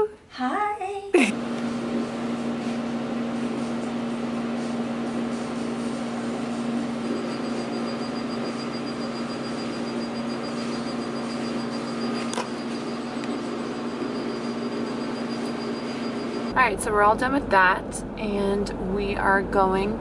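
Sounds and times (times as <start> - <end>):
machine humming: 1.2 - 20.0.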